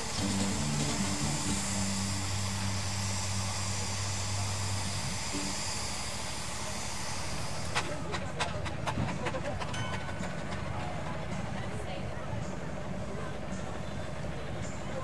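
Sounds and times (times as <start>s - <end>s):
steam engine hissing: 0.0s - 15.0s.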